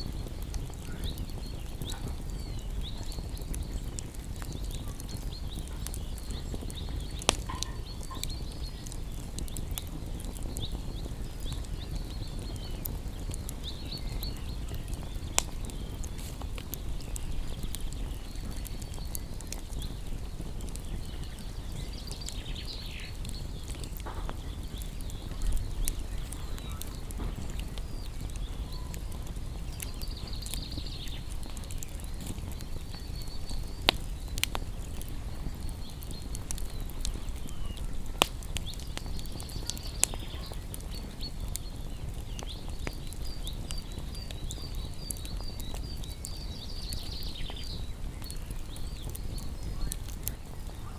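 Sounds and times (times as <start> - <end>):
songbirds chirping: 0.0 - 50.9
wood fire crackling and snapping: 0.0 - 50.9.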